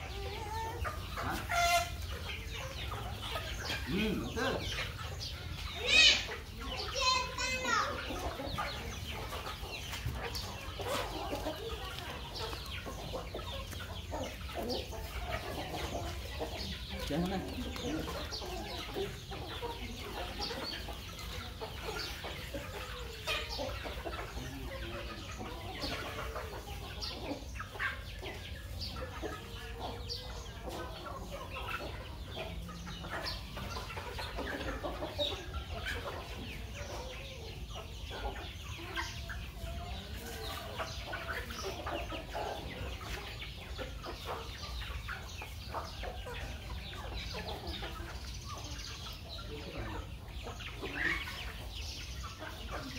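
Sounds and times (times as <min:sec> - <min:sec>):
chickens clucking and calling: 0:00.0 - 0:52.9.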